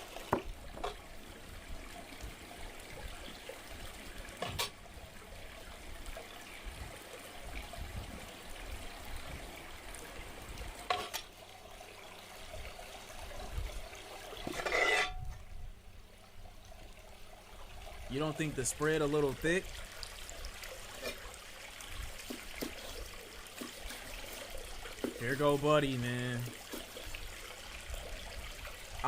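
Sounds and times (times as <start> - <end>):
water trickling: 0.0 - 29.0.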